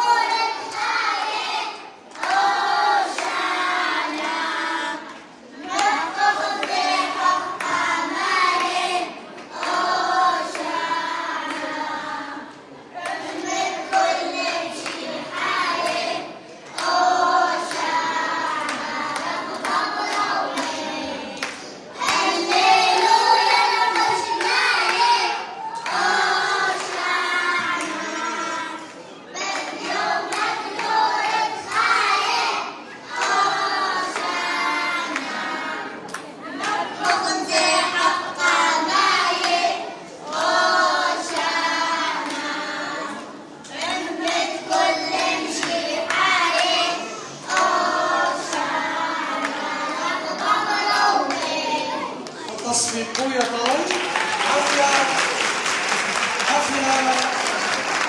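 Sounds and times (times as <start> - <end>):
hands clapping: 0.0 - 32.4, 33.1 - 40.7, 41.3 - 46.8, 47.4 - 58.0
children and women singing: 0.0 - 52.9.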